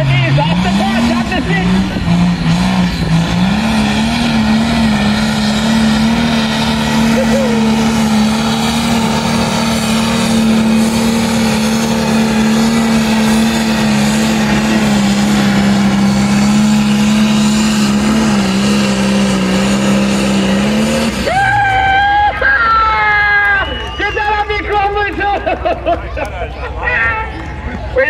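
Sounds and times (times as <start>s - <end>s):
tractor diesel engine revving high: 0.0s - 24.1s.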